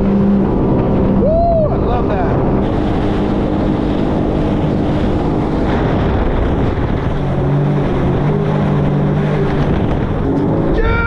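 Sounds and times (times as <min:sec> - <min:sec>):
jet ski engine: 0:00.0 - 0:11.0
wind buffeting microphone: 0:00.0 - 0:11.0
rush of spray: 0:00.7 - 0:10.7.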